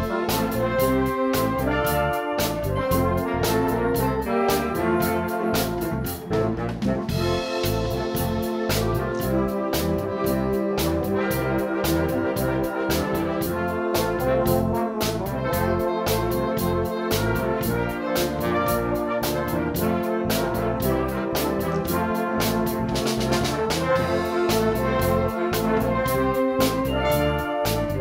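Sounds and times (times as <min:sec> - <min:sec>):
wind band playing: 0:00.0 - 0:28.0.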